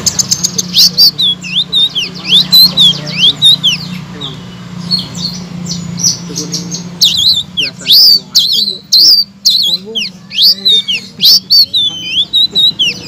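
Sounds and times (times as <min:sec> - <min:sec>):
bird chattering clicks: 0:00.0 - 0:13.0
songbird whistling: 0:00.0 - 0:13.0.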